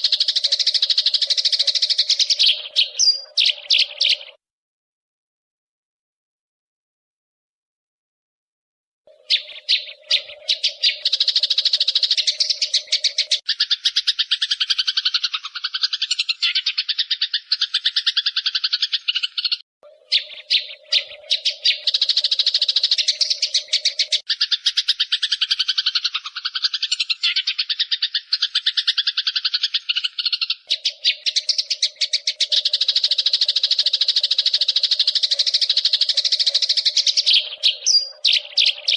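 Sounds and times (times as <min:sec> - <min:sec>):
sparrows chirping: 0:00.0 - 0:04.4, 0:09.1 - 0:38.9
sparrows rapid low chatter: 0:00.0 - 0:04.4, 0:09.1 - 0:38.9.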